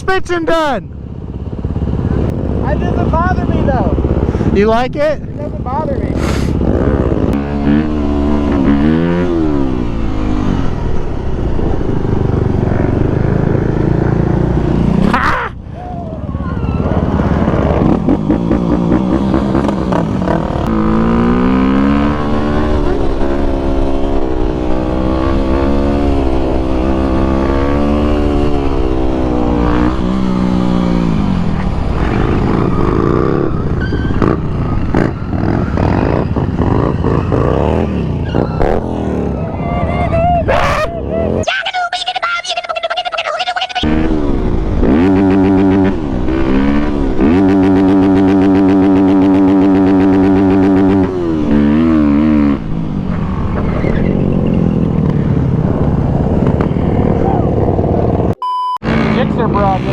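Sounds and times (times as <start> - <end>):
dirt bike engine revving: 0.4 - 15.7, 16.3 - 41.5, 43.8 - 59.9.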